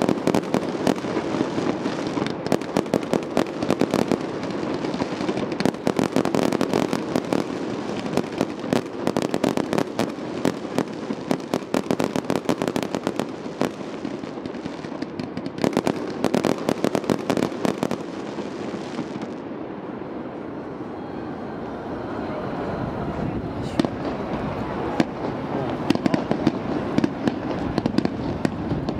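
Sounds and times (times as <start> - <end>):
fireworks crackling and banging: 0.0 - 20.9, 23.5 - 28.9.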